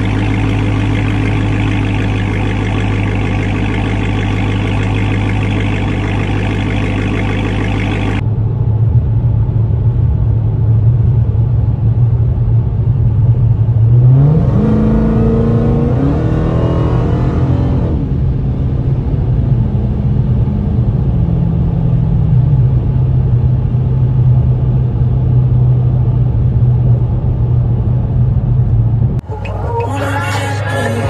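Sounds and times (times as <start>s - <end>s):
car engine accelerating: 0.0s - 23.5s, 29.0s - 31.0s.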